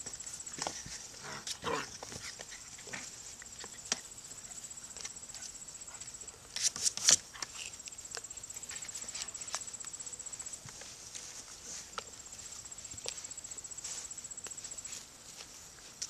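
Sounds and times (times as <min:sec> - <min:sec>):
insects trilling: 0:00.0 - 0:16.0
puppies scuffling on grass: 0:00.0 - 0:16.0.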